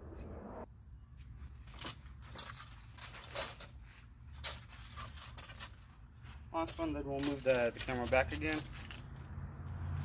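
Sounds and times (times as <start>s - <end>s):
handling rustles and clicks: 1.2s - 9.4s.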